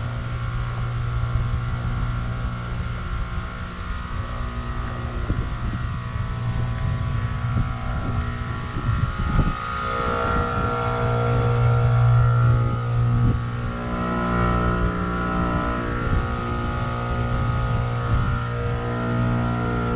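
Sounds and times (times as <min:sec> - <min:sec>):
heat pump compressor hum: 0:00.0 - 0:19.9
steady high tone: 0:03.5 - 0:19.9.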